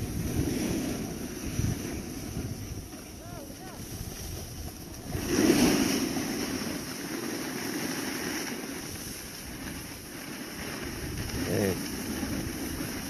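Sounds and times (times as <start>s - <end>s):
wind buffeting microphone: 0.0s - 7.0s, 8.7s - 13.0s
skis hissing on packed snow: 0.0s - 13.0s.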